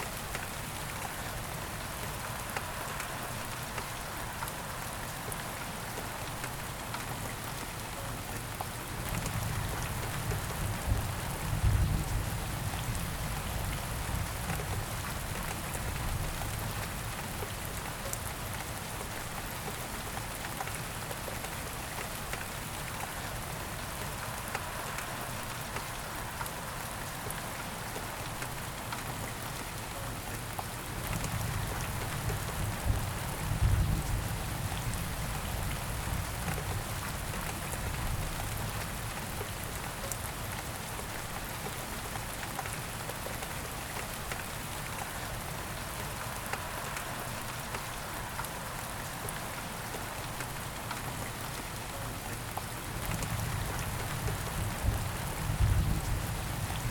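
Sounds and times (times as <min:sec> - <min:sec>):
rain pattering: 0:00.0 - 0:56.9.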